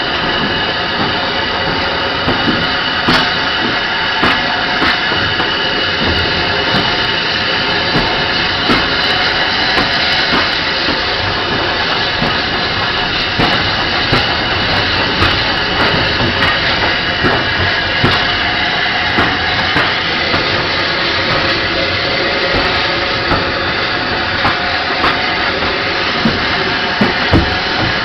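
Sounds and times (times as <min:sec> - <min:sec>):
steam hiss: 0:00.0 - 0:28.0
train running on track: 0:00.0 - 0:28.0.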